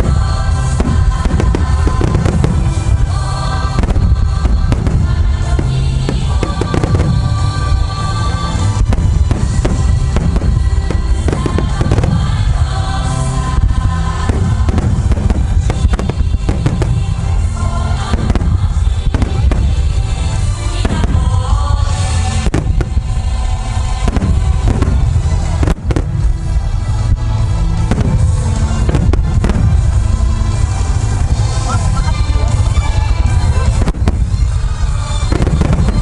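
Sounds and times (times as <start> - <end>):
fireworks booming: 0.0 - 36.0
fireworks sharp cracks: 0.0 - 36.0
music playing: 0.0 - 36.0.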